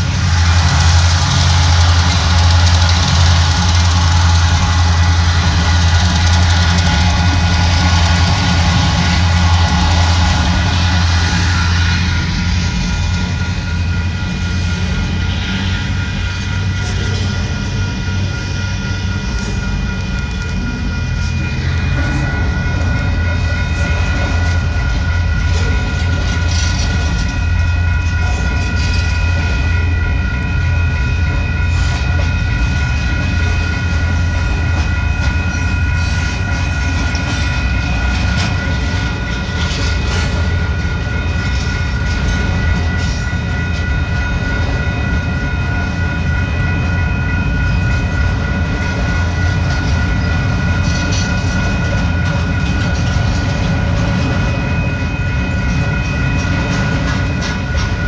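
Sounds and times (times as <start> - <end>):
freight train rumbling and clattering: 0.0 - 58.0
steady high-pitched tones: 0.0 - 58.0.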